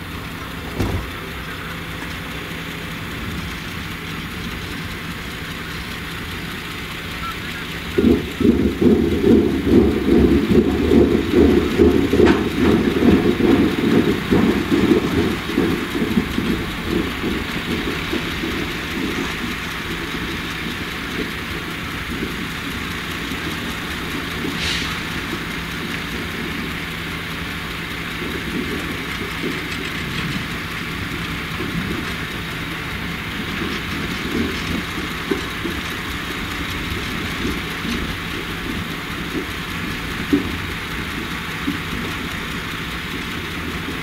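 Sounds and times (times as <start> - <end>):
heavy diesel machinery running: 0.0 - 44.0.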